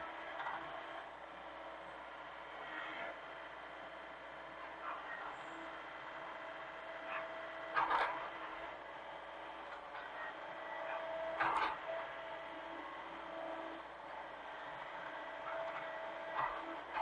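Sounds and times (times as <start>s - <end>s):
mini excavator running: 0.0s - 17.0s.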